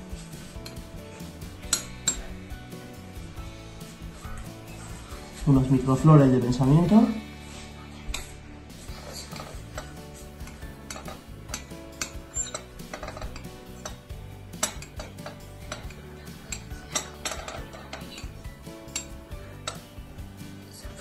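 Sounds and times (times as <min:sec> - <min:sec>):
music with sustained low notes: 0:00.0 - 0:21.0.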